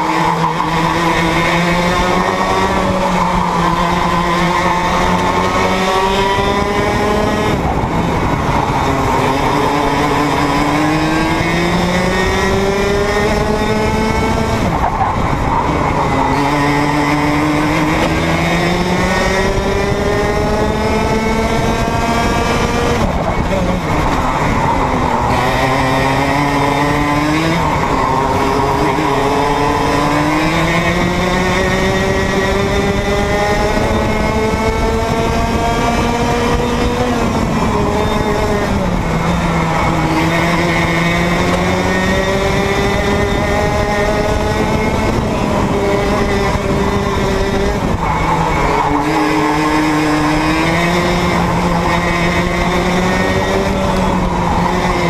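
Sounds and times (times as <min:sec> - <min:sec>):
kart engine at racing speed: 0:00.0 - 0:55.0.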